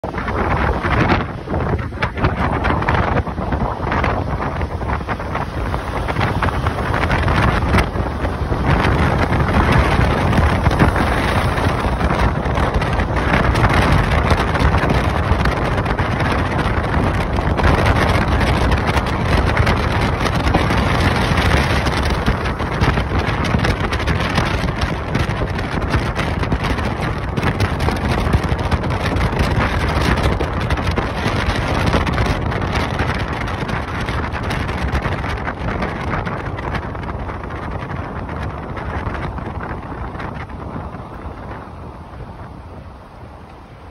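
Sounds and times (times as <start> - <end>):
vehicle road noise: 0.0 - 43.9
wind on microphone: 0.0 - 43.9.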